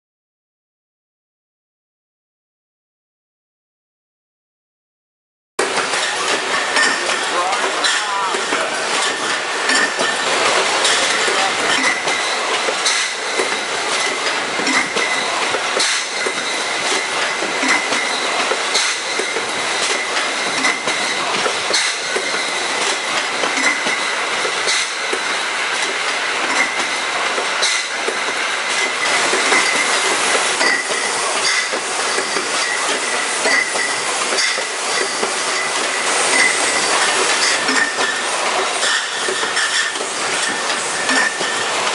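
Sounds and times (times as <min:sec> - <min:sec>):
packing machine clatter: 0:05.6 - 0:41.9.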